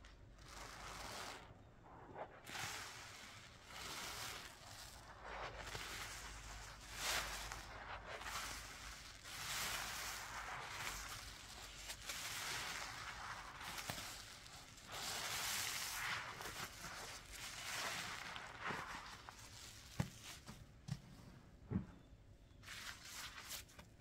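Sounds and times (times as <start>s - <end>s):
wet squishing of soapy sponge: 0.0s - 24.0s.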